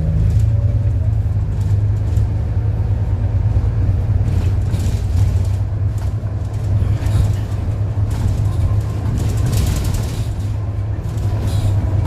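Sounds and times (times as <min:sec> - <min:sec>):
bus engine drone: 0:00.0 - 0:12.0
road and tyre rumble: 0:00.0 - 0:12.0.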